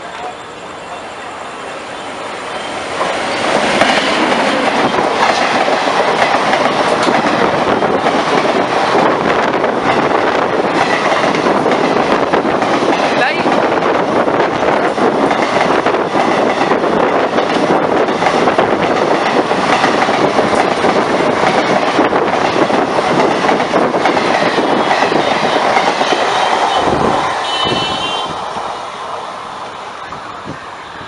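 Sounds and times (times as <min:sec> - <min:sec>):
train wheels clattering on rails: 0:02.8 - 0:28.3.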